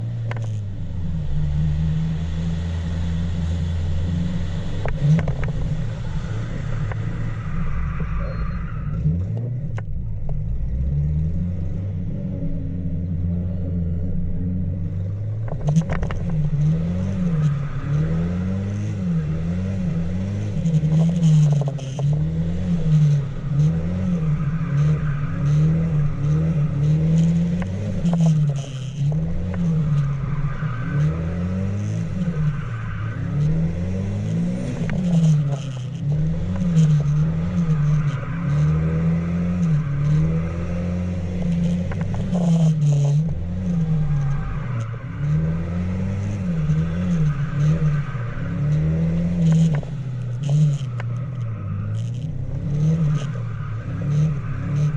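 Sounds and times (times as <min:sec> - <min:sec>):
truck engine revving: 0:10.6 - 0:54.9.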